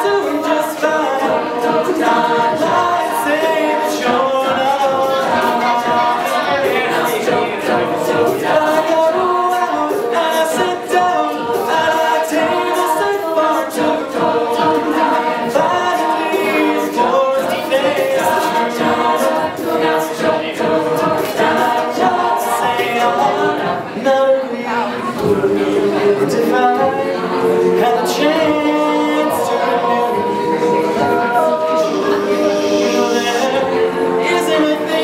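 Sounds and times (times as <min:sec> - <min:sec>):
choir singing in harmony: 0:00.0 - 0:35.0
vocal percussion beat: 0:00.0 - 0:35.0.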